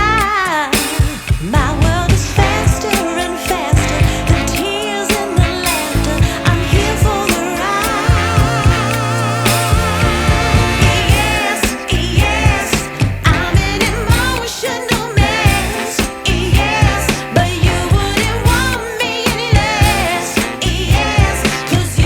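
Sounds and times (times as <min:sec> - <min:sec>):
music with beat and bass: 0:00.0 - 0:22.0
person singing: 0:00.0 - 0:22.0.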